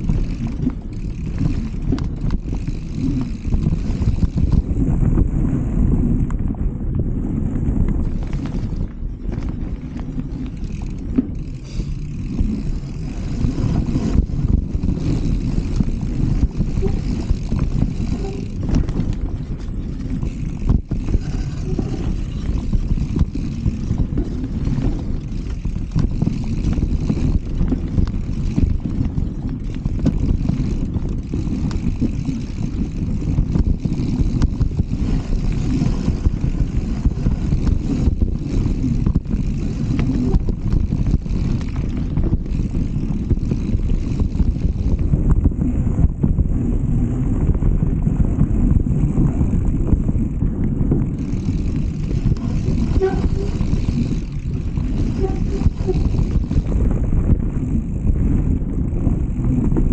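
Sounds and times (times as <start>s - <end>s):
rumbling tyre and trail noise: 0.0s - 59.9s
wind buffeting microphone: 0.0s - 59.9s.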